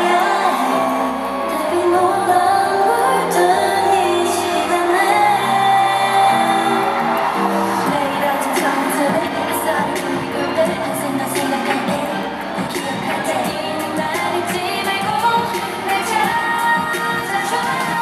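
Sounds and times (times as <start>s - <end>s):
pop song over sound system: 0.0s - 18.0s.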